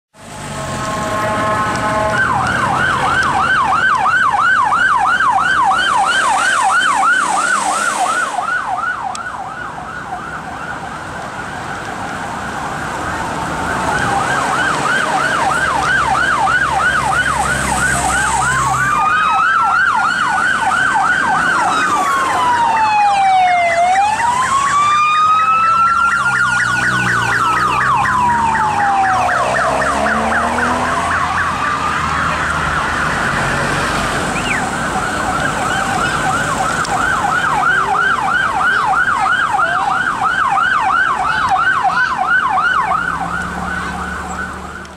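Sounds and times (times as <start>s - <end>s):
higher siren: 0.2s - 44.9s
siren wailing: 0.3s - 44.9s
siren yelping: 0.6s - 44.9s.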